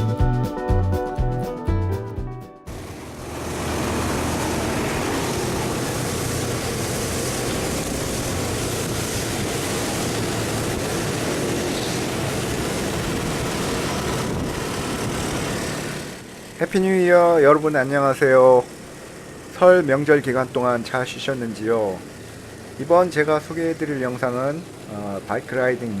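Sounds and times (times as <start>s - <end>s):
scooter engine hum: 2.7s - 26.0s
wind and road noise: 2.7s - 26.0s.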